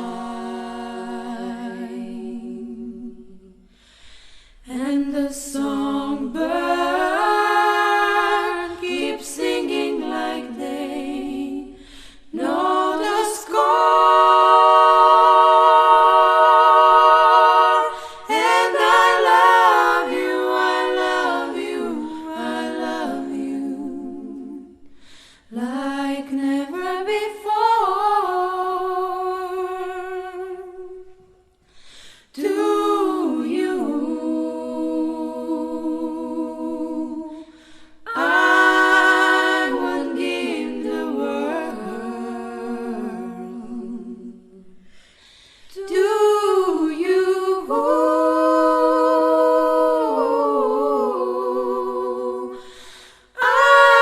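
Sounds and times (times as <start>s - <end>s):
women singing a cappella harmony: 0.0s - 54.0s.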